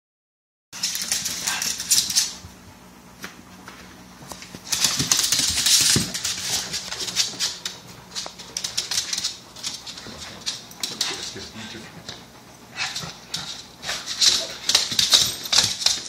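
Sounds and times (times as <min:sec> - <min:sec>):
dog toenails clicking on wood floor: 0:00.8 - 0:02.6, 0:03.2 - 0:16.0.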